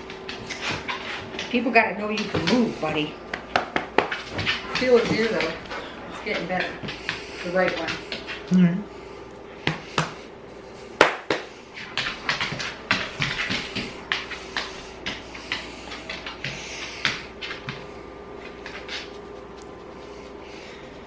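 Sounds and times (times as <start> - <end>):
dog claws clicking on hard floor: 0.0 - 8.5, 11.0 - 17.8, 18.4 - 20.1
faint steady hum: 0.0 - 21.0.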